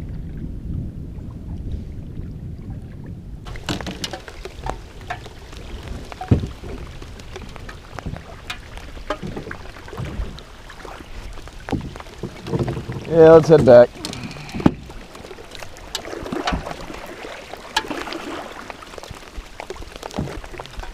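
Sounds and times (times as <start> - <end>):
wind rumble on microphone: 0.0 - 20.9
raindrops ticking and tapping: 3.5 - 20.9.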